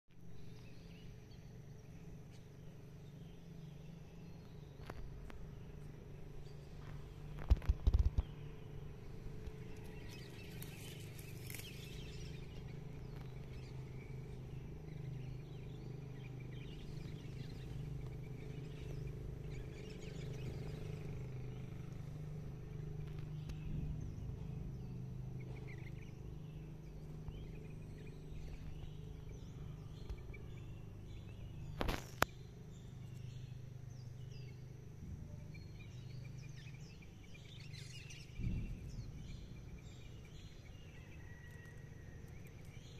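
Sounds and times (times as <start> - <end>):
birds chirping: 0.1 - 42.9
steady low hum: 0.1 - 42.9.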